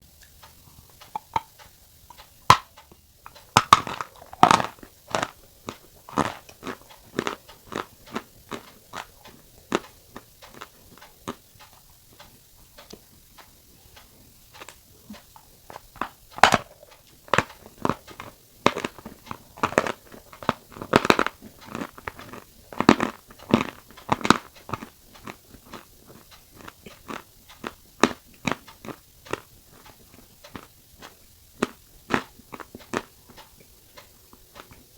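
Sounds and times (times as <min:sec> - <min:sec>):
crunchy chewing: 0:00.1 - 0:34.9.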